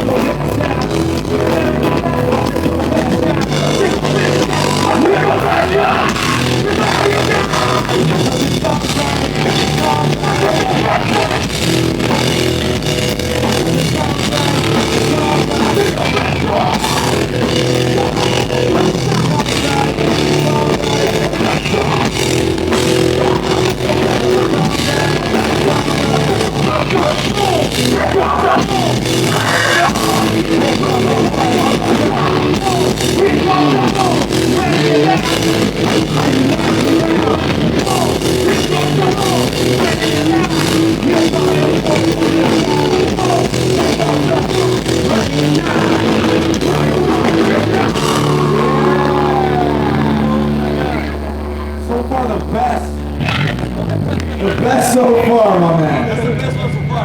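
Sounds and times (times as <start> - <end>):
drum kit steady beat: 0.0 - 50.4
bass guitar: 0.0 - 57.0
distorted electric guitar: 0.0 - 57.0.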